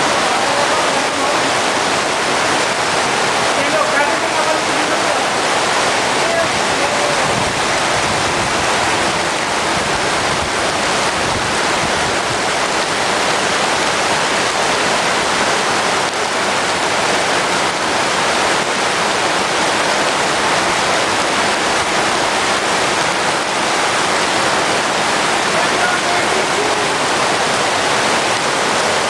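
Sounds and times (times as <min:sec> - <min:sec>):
heavy rain roaring: 0:00.0 - 0:29.0.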